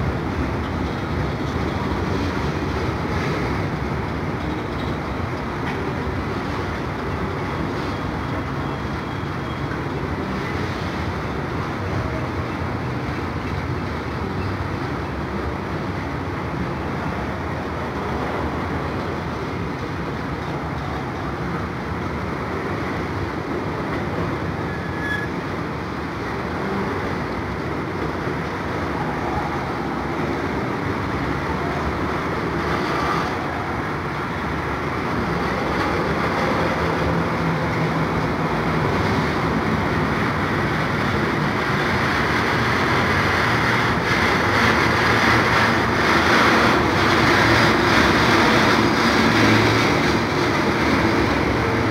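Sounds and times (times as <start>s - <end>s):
train wheels rolling on rails: 0.0s - 51.9s.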